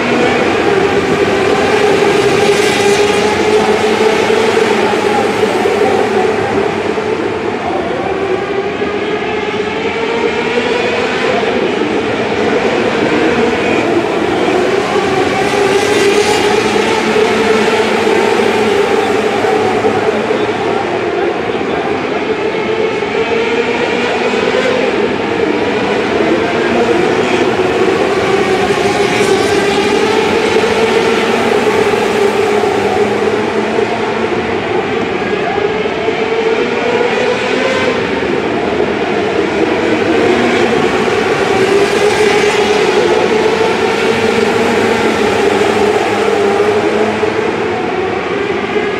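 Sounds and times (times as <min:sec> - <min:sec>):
racing car engines droning: 0:00.0 - 0:48.9.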